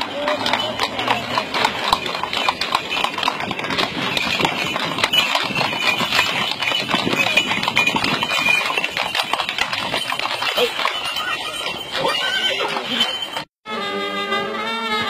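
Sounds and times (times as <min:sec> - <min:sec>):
horse hooves on asphalt: 0:00.0 - 0:13.5.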